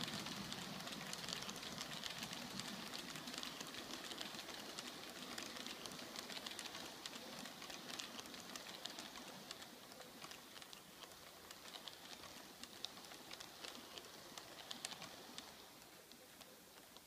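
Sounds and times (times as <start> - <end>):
model train wheels clicking: 0.0 - 17.0
soft rolling hiss: 0.0 - 17.0.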